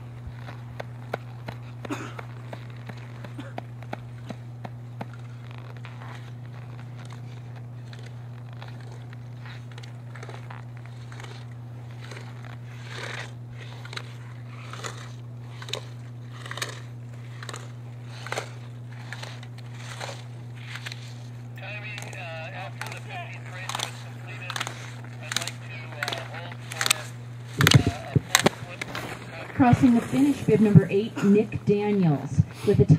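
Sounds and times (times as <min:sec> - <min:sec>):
low hum: 0:00.0 - 0:32.9
skis scraping on hard snow: 0:00.2 - 0:32.0.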